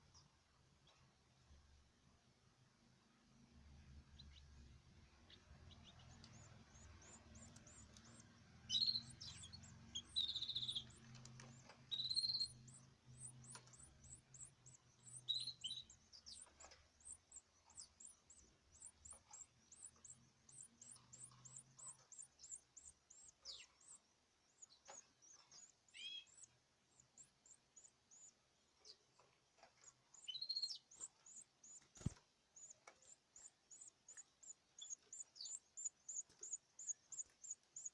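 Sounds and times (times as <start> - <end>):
faint low hum: 0.0 - 37.9
birds peeping: 3.4 - 37.9
bird chirps: 4.0 - 37.9.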